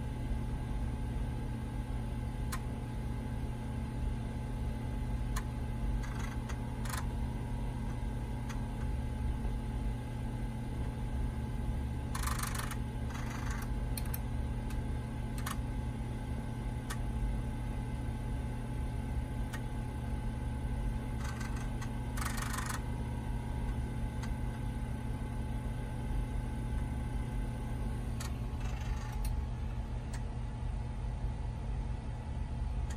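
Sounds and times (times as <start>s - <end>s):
floppy drive motor hum: 0.0s - 32.9s.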